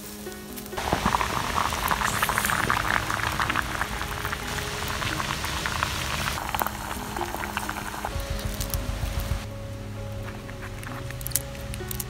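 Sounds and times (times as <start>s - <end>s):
water boiling and bubbling: 0.0s - 12.0s.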